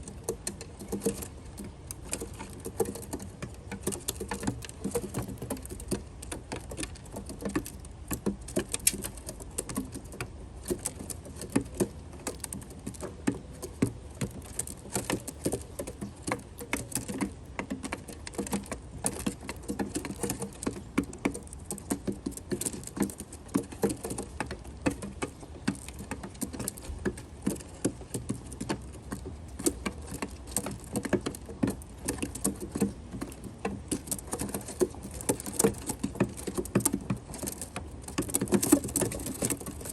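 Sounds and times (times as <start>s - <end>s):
pigeons pecking with sharp taps: 0.0s - 39.9s.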